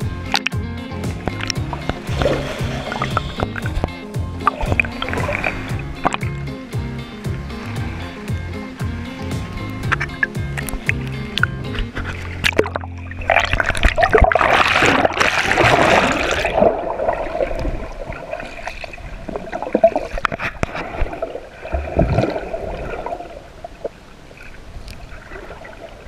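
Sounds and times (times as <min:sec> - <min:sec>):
muffled underwater sloshing: 0:00.0 - 0:26.0
water splashing and gurgling: 0:00.0 - 0:26.0.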